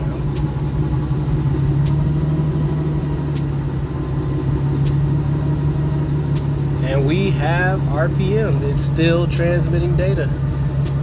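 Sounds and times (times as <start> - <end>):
car engine idling: 0.0 - 11.0
high-pitched pulley whine: 0.0 - 11.0.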